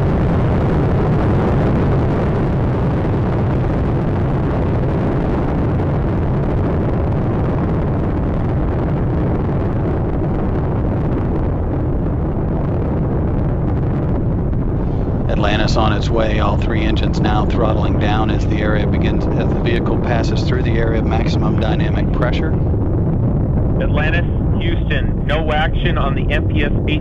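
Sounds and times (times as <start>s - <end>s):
rocket engines roaring: 0.0s - 27.0s.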